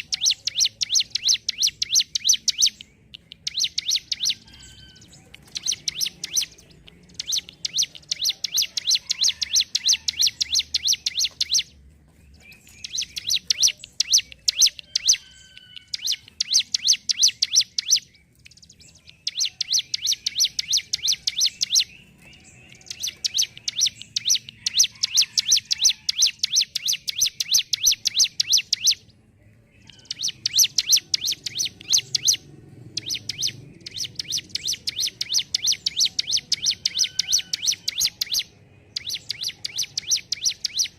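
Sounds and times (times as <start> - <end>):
bird singing rattling song: 0.0 - 40.9.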